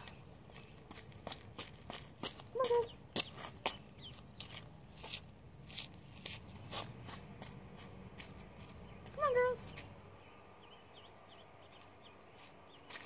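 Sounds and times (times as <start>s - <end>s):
footsteps scuffing on asphalt: 0.0s - 9.2s, 11.6s - 13.0s.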